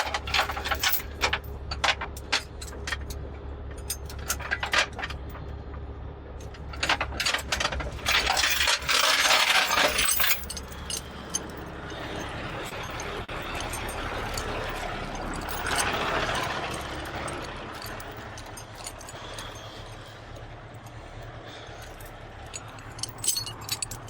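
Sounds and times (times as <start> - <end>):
metal chains clinking and rattling: 0.0 - 24.0.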